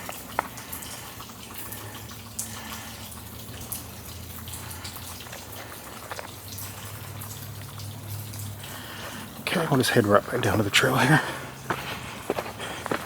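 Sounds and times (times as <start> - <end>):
sharp drip ticks: 0.0 - 13.0
water trickling over rock: 0.0 - 13.0.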